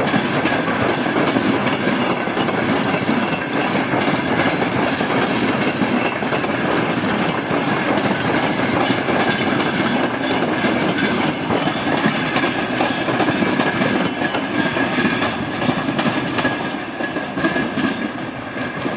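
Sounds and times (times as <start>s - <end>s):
train wheels clattering over rail joints: 0.0s - 18.9s.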